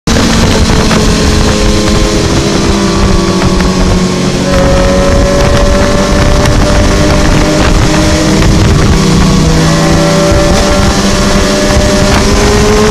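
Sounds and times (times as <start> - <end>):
motorcycle engine at speed: 0.1 - 12.9
wind rushing over microphone: 0.1 - 12.9.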